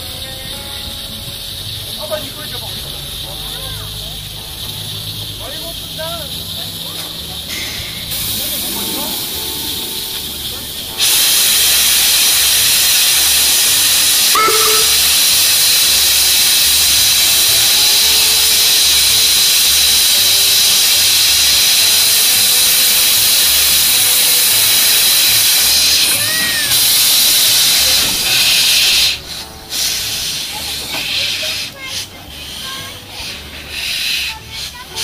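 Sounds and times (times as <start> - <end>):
steam locomotive venting steam: 0.0 - 35.0.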